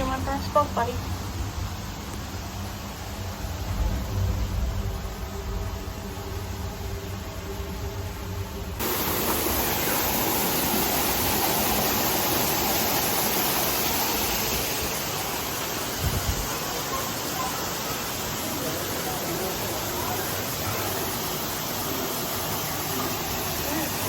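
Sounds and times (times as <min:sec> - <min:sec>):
falling water rushing: 0:00.0 - 0:24.0.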